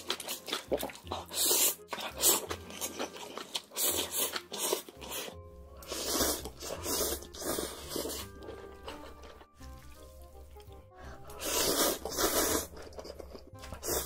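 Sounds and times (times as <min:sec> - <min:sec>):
person slurping noodles: 0:00.0 - 0:09.2, 0:11.1 - 0:14.0
background music: 0:00.0 - 0:14.0.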